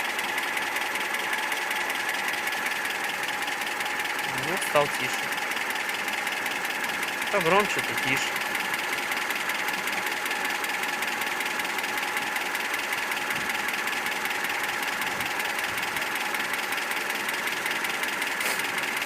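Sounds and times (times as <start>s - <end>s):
engine idling with knocking: 0.0s - 19.0s.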